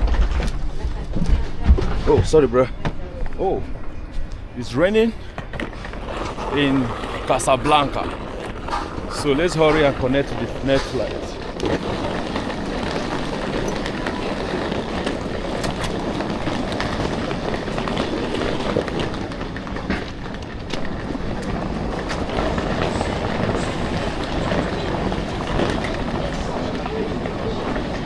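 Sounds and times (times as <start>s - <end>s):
railway station rumble: 0.0s - 28.0s.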